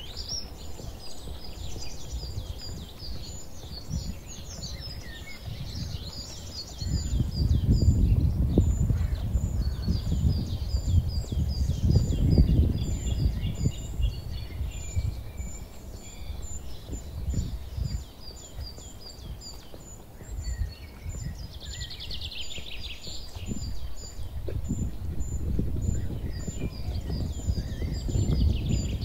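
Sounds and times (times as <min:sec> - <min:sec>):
small songbirds chirping: 0:00.0 - 0:29.0.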